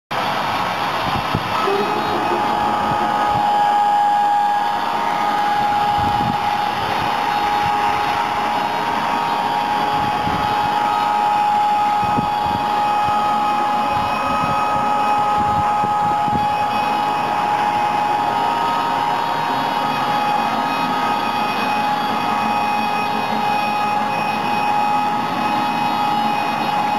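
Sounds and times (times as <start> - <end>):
band saw whining through log: 0.2 - 26.9.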